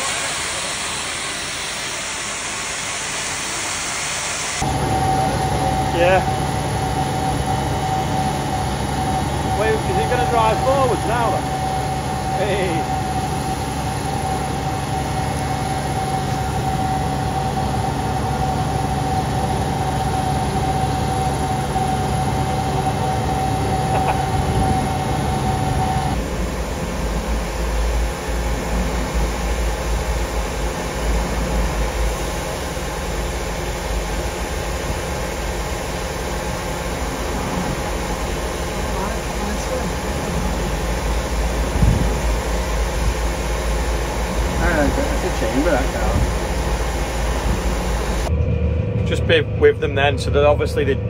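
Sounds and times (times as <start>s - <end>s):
constant whine: 0.0s - 51.0s
heavy machinery running: 0.0s - 51.0s.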